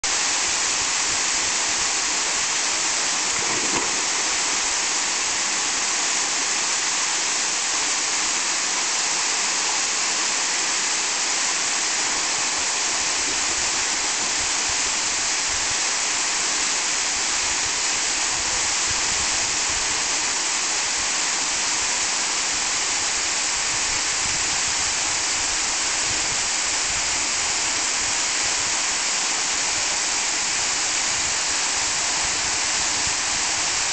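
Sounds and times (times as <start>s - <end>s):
waterfall pouring into pool: 0.1s - 33.9s.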